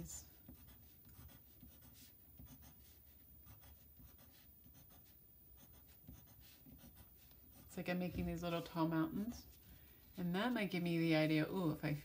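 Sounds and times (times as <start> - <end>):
pencil scratching on paper: 0.0 - 10.3.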